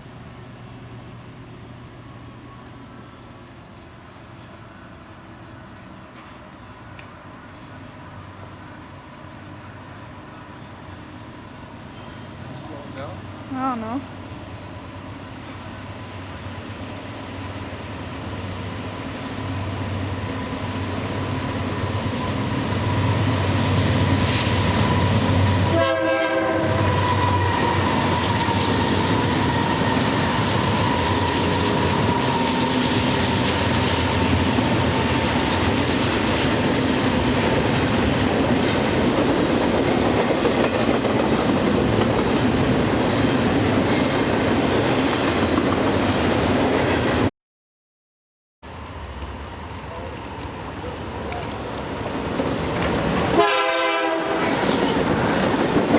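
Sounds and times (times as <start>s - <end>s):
train passing close by: 0.0s - 47.3s, 48.6s - 55.9s.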